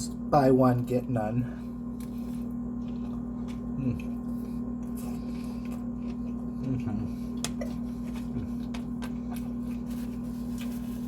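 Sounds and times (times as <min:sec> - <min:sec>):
electrical hum: 0:00.0 - 0:11.0
chewing: 0:01.6 - 0:11.0.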